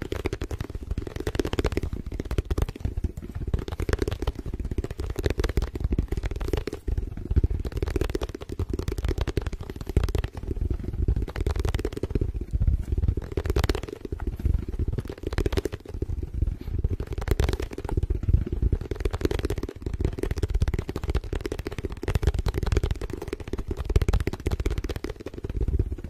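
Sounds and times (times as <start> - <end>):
rapid tapping on a microphone: 0.0 - 26.0.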